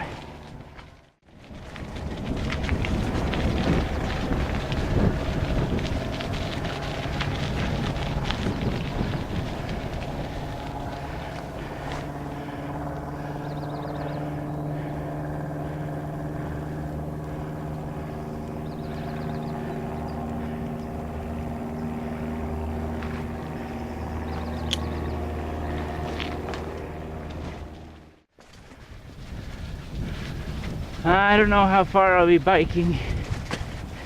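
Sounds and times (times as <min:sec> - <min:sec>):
machine drone with tones: 0:00.0 - 0:28.3.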